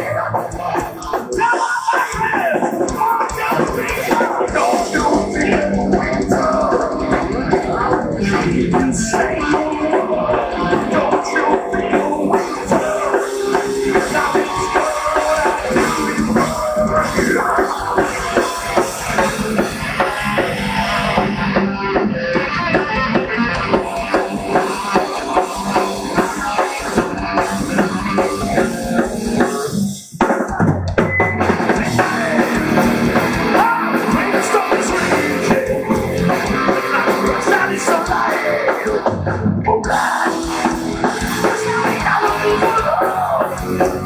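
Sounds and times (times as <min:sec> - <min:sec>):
electric guitars: 0:00.0 - 0:30.2, 0:30.8 - 0:44.0
live rock band: 0:00.0 - 0:44.0.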